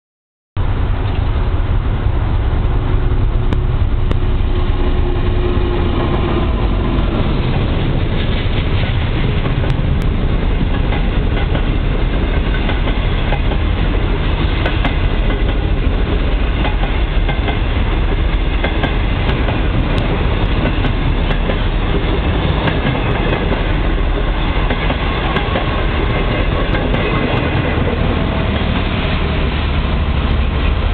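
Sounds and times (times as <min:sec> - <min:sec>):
train wheels clacking over rail joints: 0:03.5 - 0:30.9.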